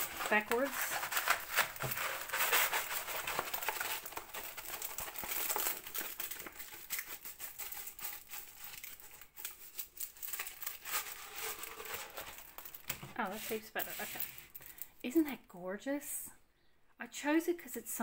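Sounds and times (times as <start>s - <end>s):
canvas and plastic film crinkling: 0.0s - 14.9s.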